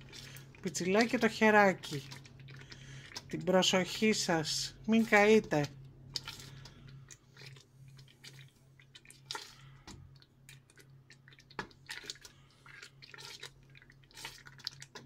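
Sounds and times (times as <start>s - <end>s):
jam boiling with soft pops: 0.0s - 15.0s.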